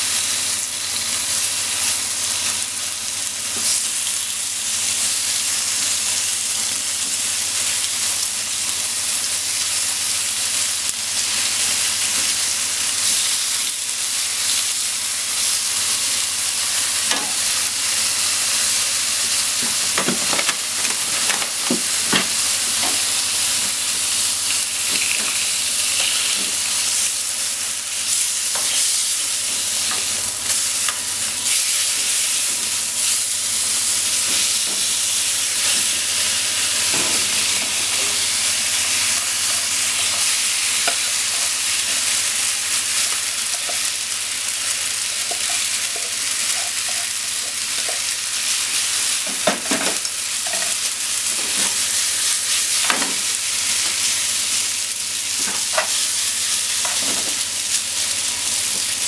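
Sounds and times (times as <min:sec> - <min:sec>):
bacon sizzling in a pan: 0:00.0 - 0:59.0.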